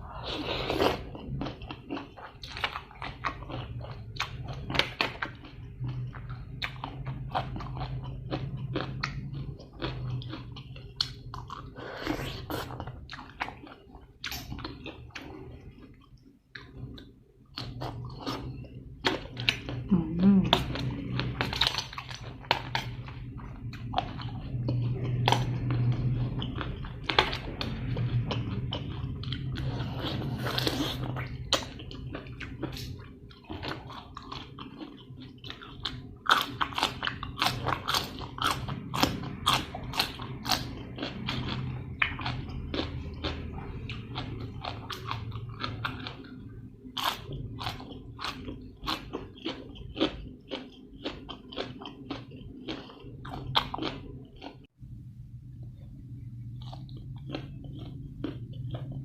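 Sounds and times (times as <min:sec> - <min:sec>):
crunchy chewing and biting: 0:00.1 - 0:54.7, 0:56.5 - 0:59.0.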